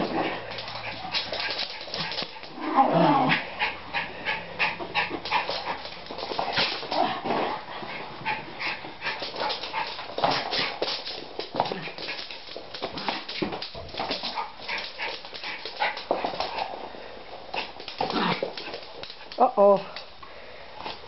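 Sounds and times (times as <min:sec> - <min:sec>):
paw clicks and scuffles: 0:00.0 - 0:02.6, 0:03.3 - 0:16.8, 0:17.5 - 0:20.1.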